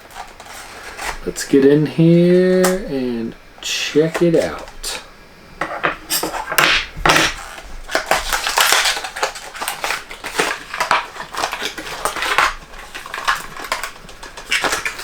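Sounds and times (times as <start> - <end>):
packaging crackling and rustling: 0.0 - 2.9, 3.6 - 5.1, 5.7 - 15.0.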